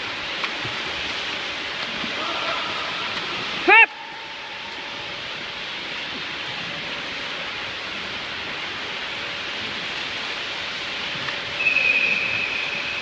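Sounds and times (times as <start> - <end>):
rushing water in swimming pool: 0.0 - 13.0.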